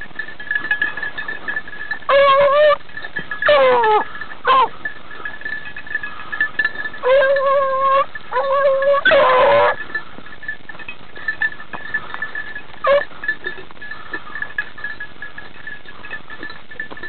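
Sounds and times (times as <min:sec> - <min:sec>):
beagles baying: 0:00.0 - 0:17.0
faint high ringing tone: 0:00.0 - 0:17.0.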